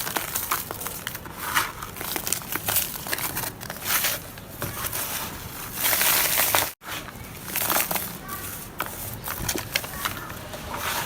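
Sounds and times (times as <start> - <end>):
dry dirt crumbling and crunching: 0.0 - 11.0.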